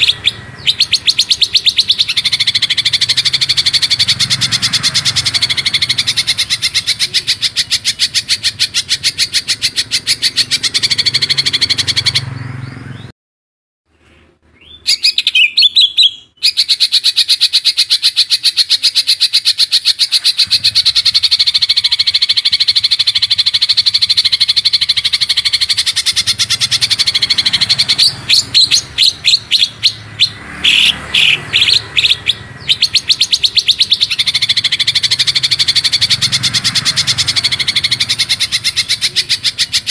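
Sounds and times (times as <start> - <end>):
bird call with pitch glides: 0.0 - 13.1, 13.9 - 39.9.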